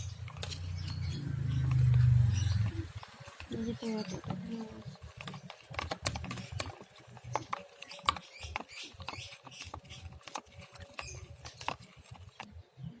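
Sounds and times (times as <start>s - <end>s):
spoon stirring thick paint: 0.0s - 12.7s.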